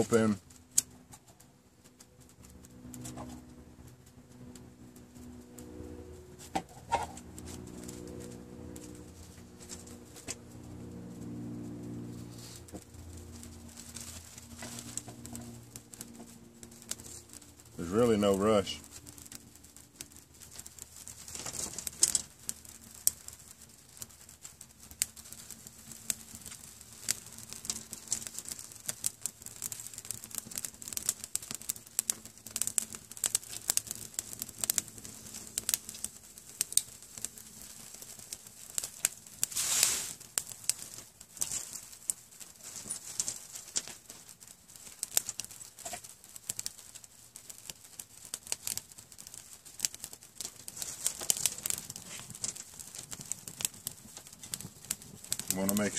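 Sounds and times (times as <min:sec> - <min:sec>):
fire crackling and popping: 0:00.0 - 0:55.9
rustle of dry material: 0:00.0 - 0:55.9.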